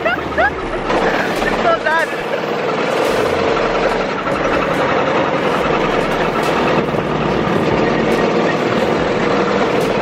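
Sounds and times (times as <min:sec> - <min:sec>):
small vehicle engine running: 0:00.0 - 0:10.0.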